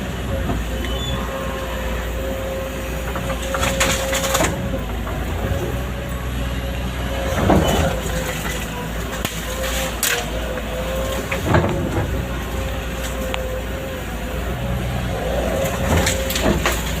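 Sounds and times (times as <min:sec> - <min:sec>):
excavator diesel engine running: 0:00.0 - 0:17.0
hydraulic whine: 0:00.0 - 0:17.0.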